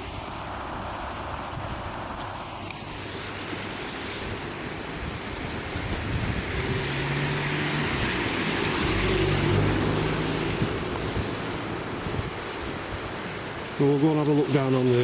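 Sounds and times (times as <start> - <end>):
wind on microphone: 0.0 - 14.4
swollen river rushing: 0.0 - 15.0
vehicle engine hum: 0.0 - 15.0.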